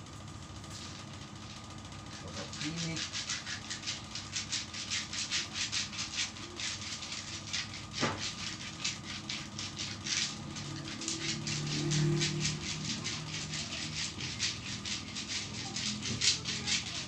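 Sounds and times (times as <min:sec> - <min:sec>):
hands rubbing on skin: 0:02.1 - 0:17.0.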